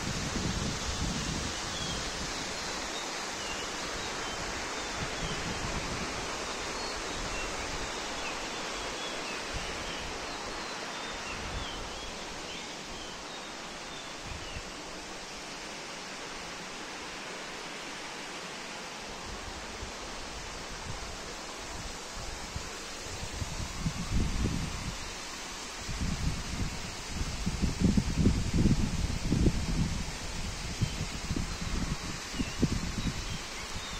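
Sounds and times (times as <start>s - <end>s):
rushing outdoor hiss: 0.0s - 33.9s.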